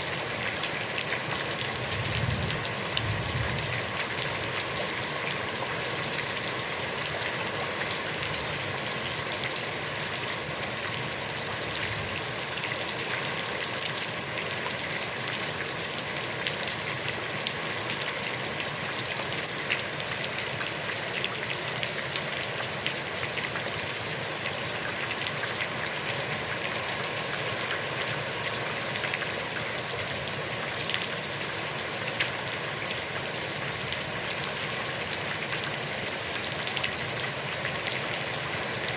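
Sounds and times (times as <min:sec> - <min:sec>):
heavy rain on pond: 0:00.0 - 0:38.9.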